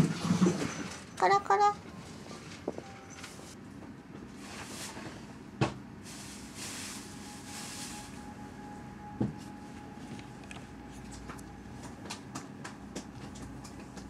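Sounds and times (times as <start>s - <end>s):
faint hum: 1.7s - 14.0s.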